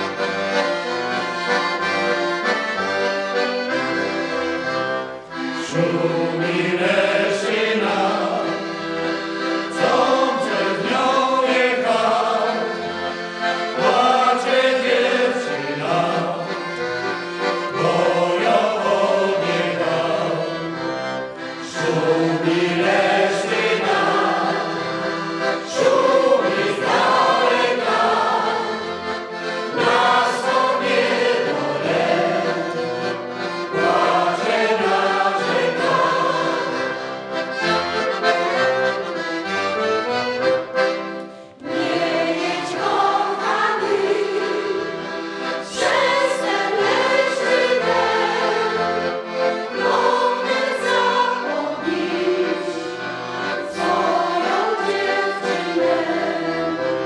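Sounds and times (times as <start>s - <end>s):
folk choir singing: 0.0s - 39.2s, 41.5s - 57.0s
accordion: 0.0s - 57.0s.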